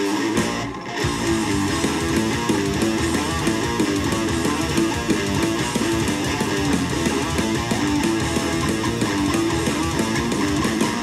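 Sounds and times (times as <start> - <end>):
electric guitar through amplifier: 0.0 - 11.0.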